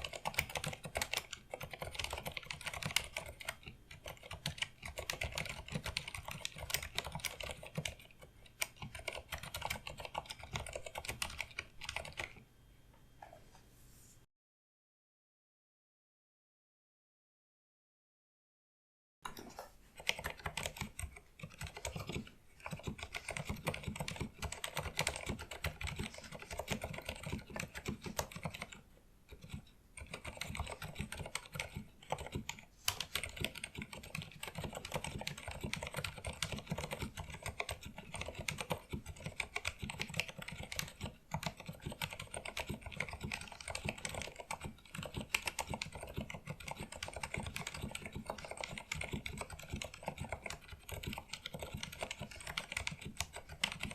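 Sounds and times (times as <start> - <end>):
fast typing on mechanical keyboard: 0.0 - 12.4, 20.0 - 53.9.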